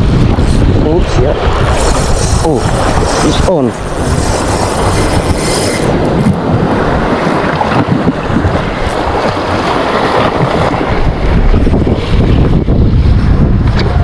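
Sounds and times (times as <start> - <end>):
waves washing: 0.0 - 14.0
wind buffeting microphone: 0.0 - 14.0.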